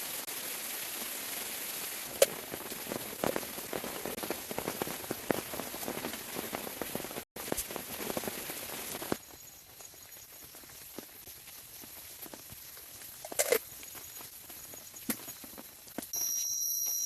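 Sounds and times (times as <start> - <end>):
steady rain falling: 0.0 - 16.2.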